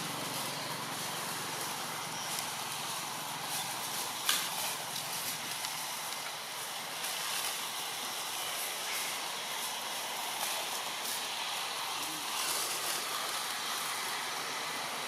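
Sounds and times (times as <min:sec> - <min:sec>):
dry leaves rustling and crackling: 0:00.0 - 0:15.0
outdoor hiss: 0:00.0 - 0:15.0.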